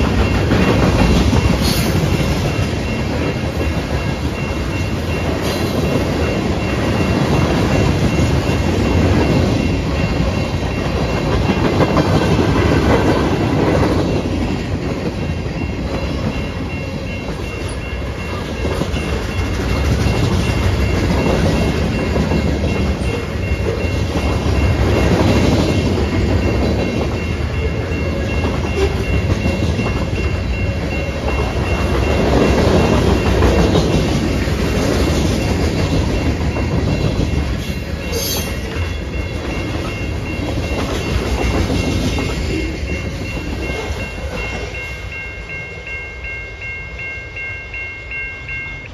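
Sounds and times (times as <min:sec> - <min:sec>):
crossing bell ringing: 0:00.0 - 0:48.9
freight train rumbling by: 0:00.0 - 0:48.9.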